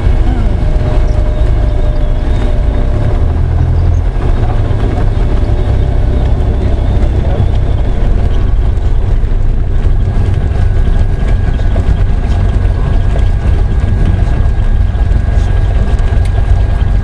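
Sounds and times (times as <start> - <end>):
idling aircraft engine rumble: 0.0 - 17.0.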